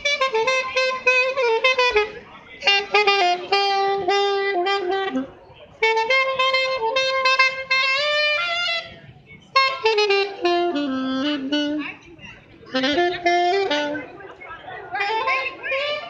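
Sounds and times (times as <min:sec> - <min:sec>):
saxophone melody: 0:00.0 - 0:16.0.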